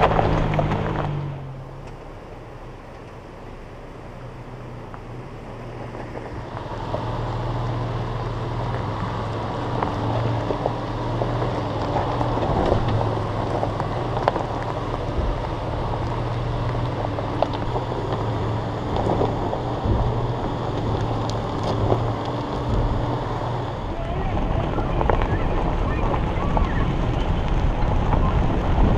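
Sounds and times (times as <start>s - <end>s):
truck engine at low speed: 0.0s - 28.9s
tyres crunching over gravel: 0.0s - 28.9s.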